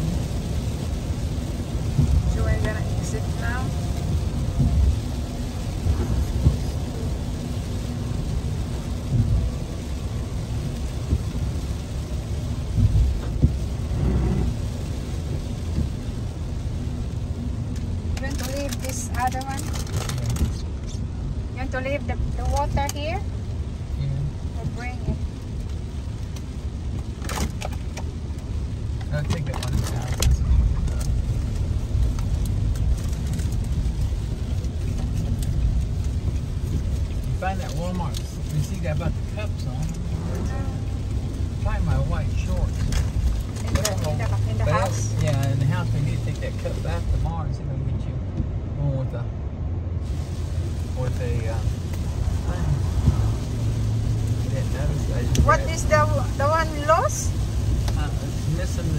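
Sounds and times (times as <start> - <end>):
rain hitting car: 0.0 - 58.9
tyre and road noise in car: 0.0 - 58.9.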